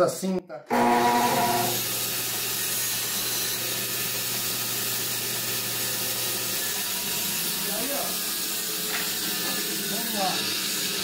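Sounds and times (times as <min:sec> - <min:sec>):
power tool hissing: 0:00.7 - 0:11.0.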